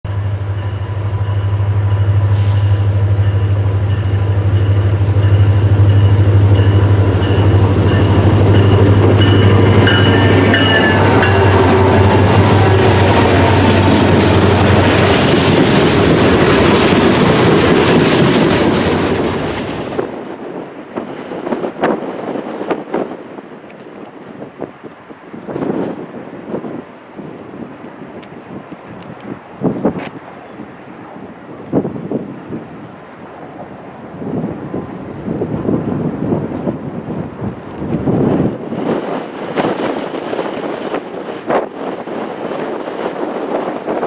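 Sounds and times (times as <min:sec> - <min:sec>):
train wheels rumbling on rail: 0:00.1 - 0:44.0.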